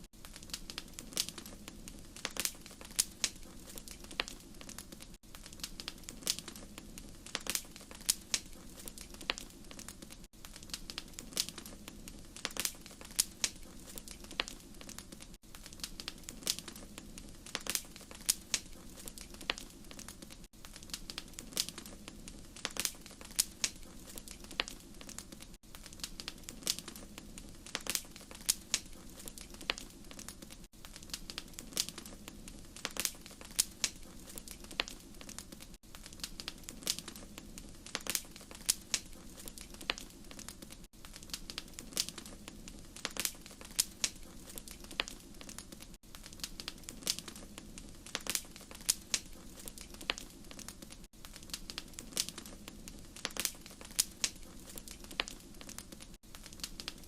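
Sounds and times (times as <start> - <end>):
soft fire hiss: 0.0 - 57.0
wood fire crackling and popping: 0.0 - 57.0.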